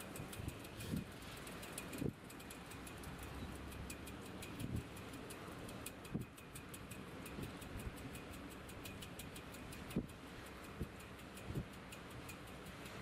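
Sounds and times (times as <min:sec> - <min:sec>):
steady even ticking: 0:00.0 - 0:13.0.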